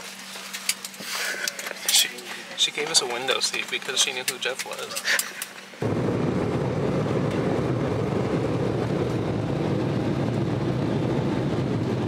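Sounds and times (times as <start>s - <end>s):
jet engines rumbling: 1.6s - 12.0s.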